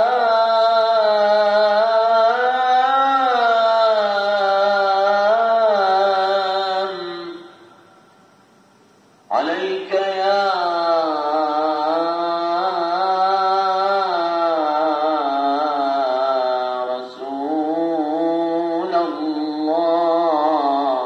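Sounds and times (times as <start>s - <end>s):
man chanting call to prayer: 0.0s - 7.7s, 9.3s - 21.0s.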